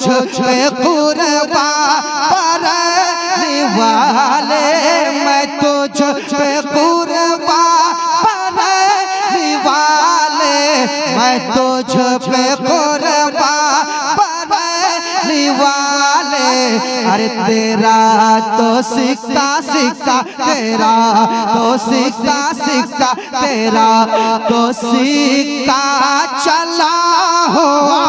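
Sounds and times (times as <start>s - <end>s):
man singing long wavering notes: 0.0s - 28.0s.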